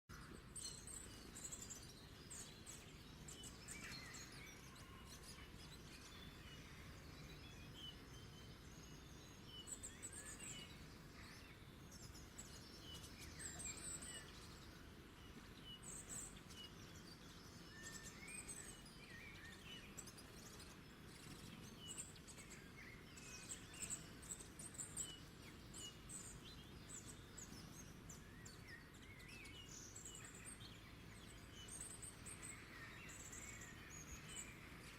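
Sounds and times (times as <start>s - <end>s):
faint birdsong chirps and trills: 0.0s - 34.9s
low background hiss: 0.1s - 34.9s.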